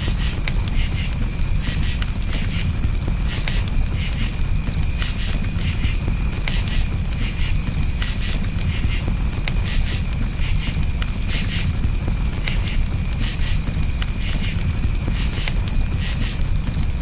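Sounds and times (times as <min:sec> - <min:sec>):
campfire rumble: 0:00.0 - 0:17.0
crickets chirping: 0:00.0 - 0:17.0
fire crackles: 0:00.0 - 0:17.0.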